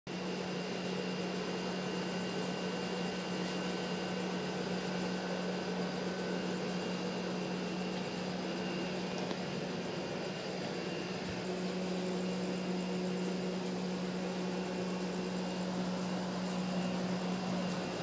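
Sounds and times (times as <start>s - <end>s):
steady mechanical hum: 0.1s - 18.0s.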